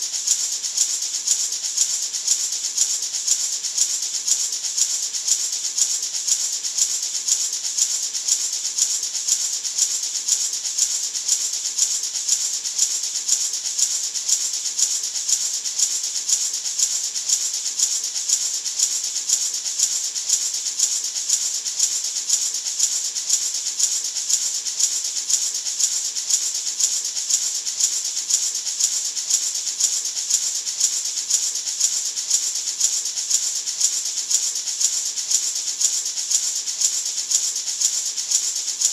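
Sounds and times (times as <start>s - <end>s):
gourd maraca rattling: 0.0s - 38.9s.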